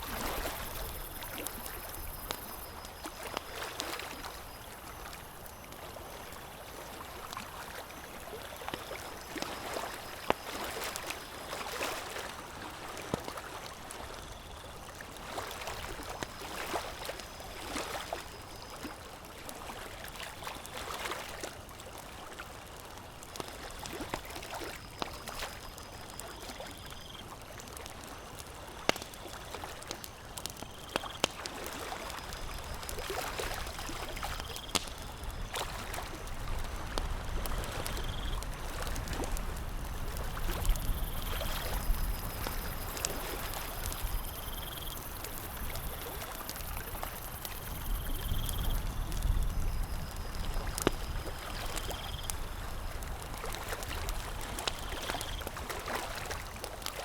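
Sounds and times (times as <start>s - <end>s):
campfire crackling and popping: 0.1s - 11.5s, 12.4s - 57.0s.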